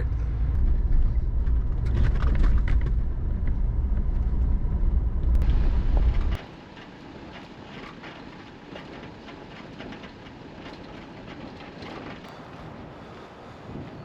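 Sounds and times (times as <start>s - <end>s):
car engine and road rumble: 0.0s - 14.0s
faint outdoor sound: 0.0s - 14.0s.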